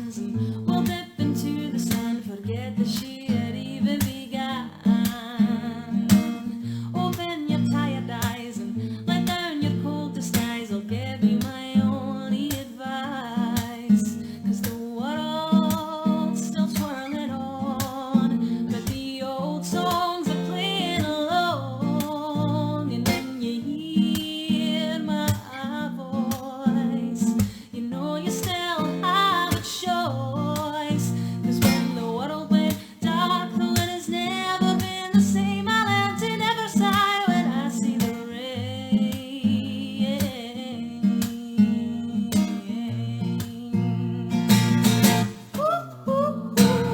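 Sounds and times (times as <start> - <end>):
strummed acoustic guitar: 0.0 - 46.9
woman singing with vibrato: 0.0 - 46.9.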